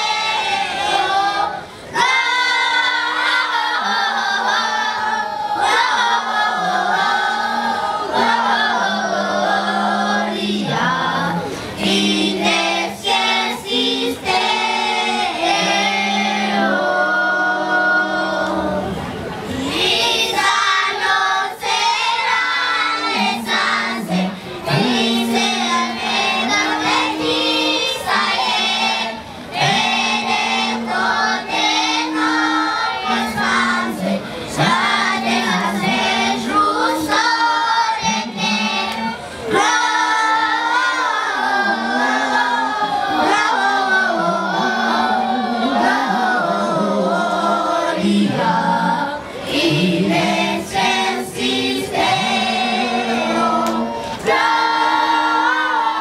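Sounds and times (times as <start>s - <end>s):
children's choir singing through loudspeaker: 0.0s - 56.0s.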